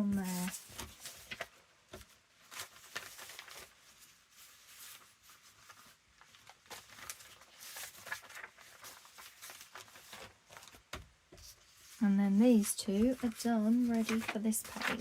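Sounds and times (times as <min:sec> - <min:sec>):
paper rustling: 0:00.0 - 0:15.0.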